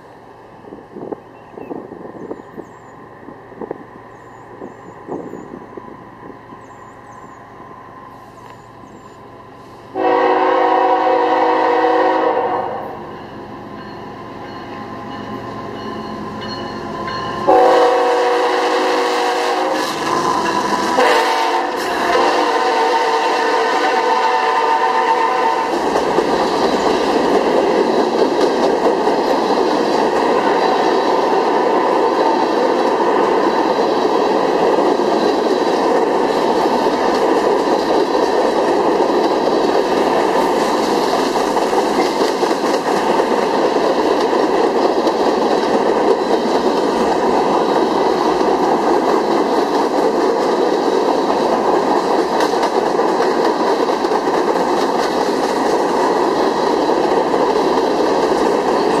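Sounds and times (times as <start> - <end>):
freight train cars rolling past: 0.0 - 59.0.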